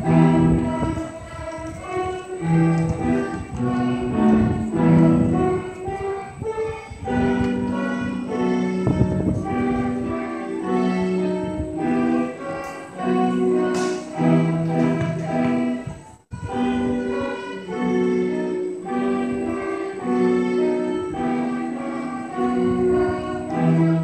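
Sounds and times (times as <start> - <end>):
string orchestra playing: 0.0 - 24.0.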